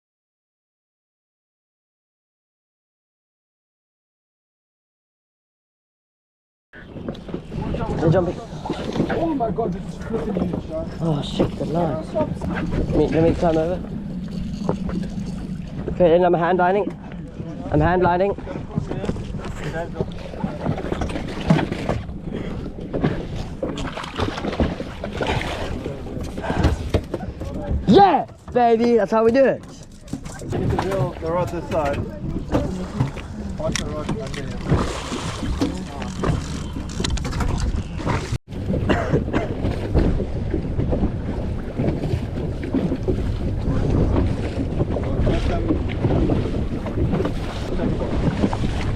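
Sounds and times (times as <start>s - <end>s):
knocks and thumps on boat: 6.8s - 48.9s
water slapping boat hull: 6.8s - 48.9s
wind buffeting microphone: 6.8s - 48.9s.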